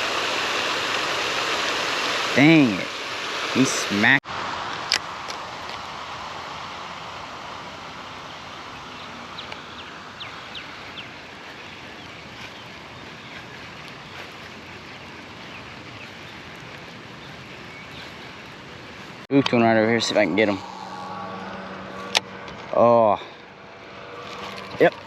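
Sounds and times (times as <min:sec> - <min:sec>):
outdoor hiss: 0:00.0 - 0:22.2.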